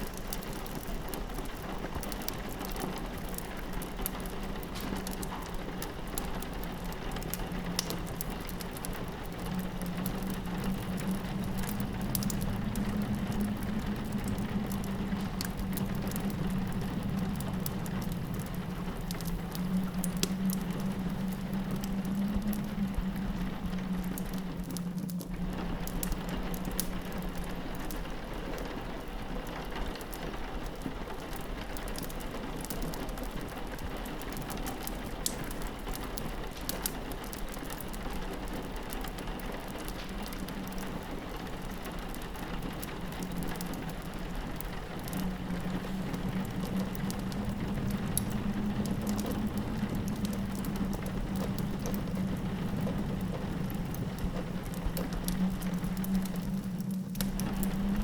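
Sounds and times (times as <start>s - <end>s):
fireplace crackling: 0.0s - 58.0s
low wind howl: 0.0s - 58.0s
rain pattering on a window: 0.0s - 58.0s.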